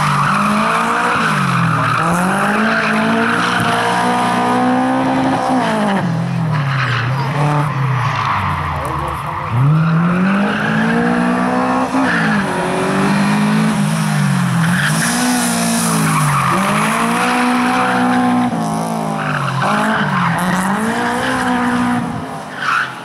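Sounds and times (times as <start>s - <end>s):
car engine revving: 0.0s - 22.4s
tyres squealing and skidding: 0.0s - 23.0s.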